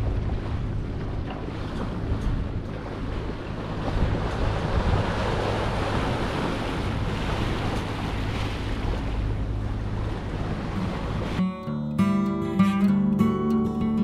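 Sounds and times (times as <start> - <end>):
wind buffeting microphone: 0.0 - 11.4
sea water rushing: 0.0 - 11.5.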